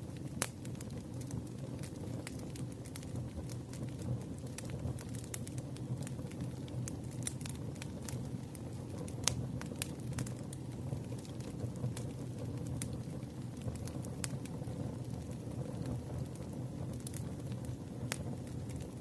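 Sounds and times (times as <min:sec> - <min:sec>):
campfire crackling and popping: 0:00.0 - 0:19.0
fire low rumble: 0:00.0 - 0:19.0.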